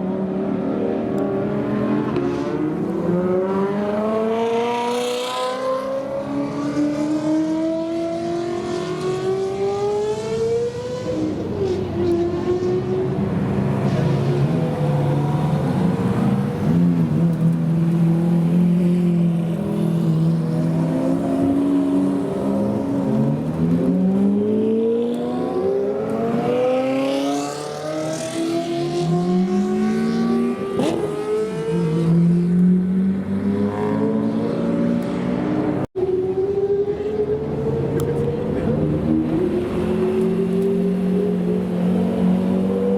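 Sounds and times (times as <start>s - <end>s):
supercar engines revving: 0.0s - 42.9s.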